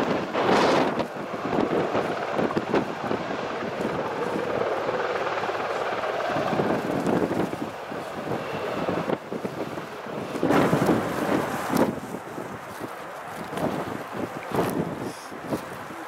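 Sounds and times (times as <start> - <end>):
aircraft engines droning: 0.0 - 16.0.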